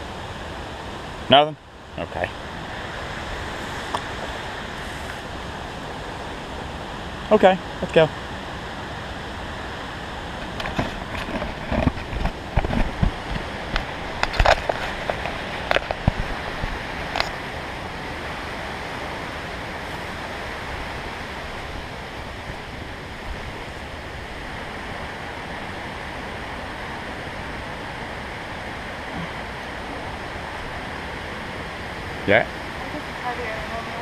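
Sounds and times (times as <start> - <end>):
creek water rushing: 0.0 - 34.0.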